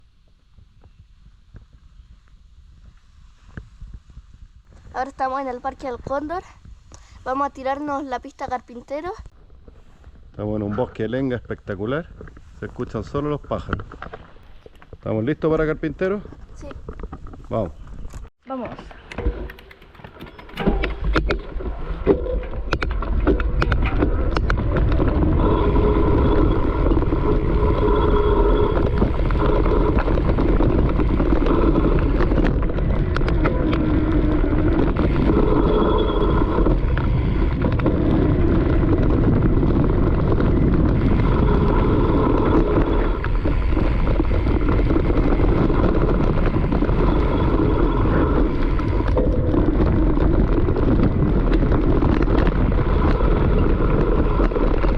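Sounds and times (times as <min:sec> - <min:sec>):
wind rushing over microphone: 0:00.0 - 0:54.9
tyres rumbling over dirt: 0:10.6 - 0:54.9.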